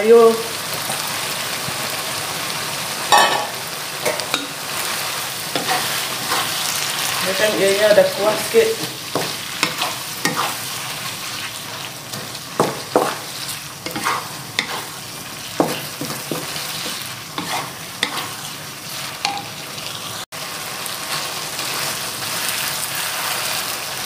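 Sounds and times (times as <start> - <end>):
food sizzling in a wok: 0.0 - 24.0
spatula scraping wok: 4.0 - 20.3, 20.9 - 24.0.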